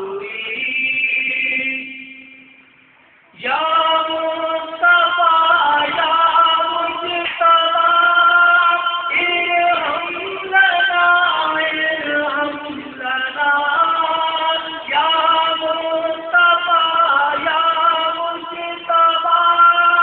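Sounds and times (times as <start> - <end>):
person singing chant: 0.0 - 2.4, 3.4 - 20.0.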